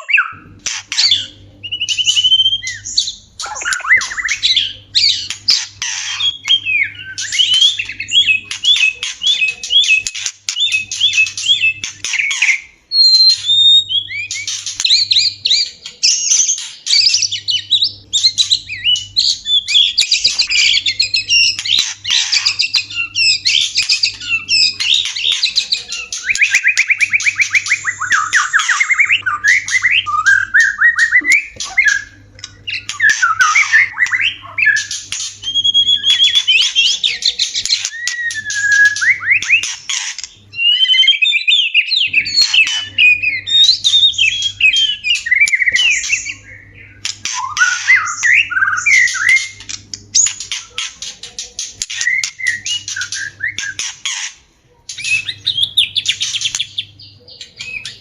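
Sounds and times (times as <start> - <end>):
bird whistled song: 0.0 - 50.9, 51.8 - 54.2, 54.9 - 58.0
bird trill: 0.0 - 58.0.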